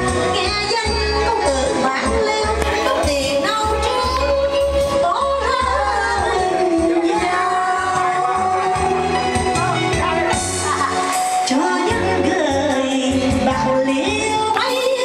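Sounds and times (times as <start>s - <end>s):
backing music with bass beat: 0.0s - 15.0s
woman singing into a microphone: 0.0s - 15.0s.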